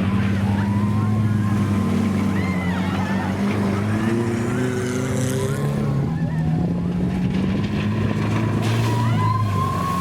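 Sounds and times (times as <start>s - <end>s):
jeep engine running: 0.0s - 10.0s.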